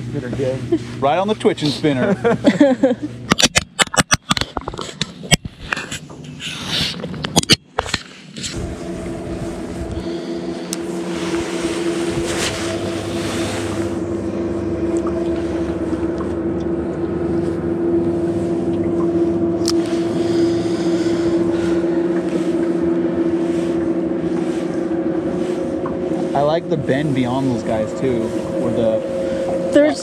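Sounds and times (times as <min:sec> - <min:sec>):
boat motor humming: 0:00.0 - 0:30.0.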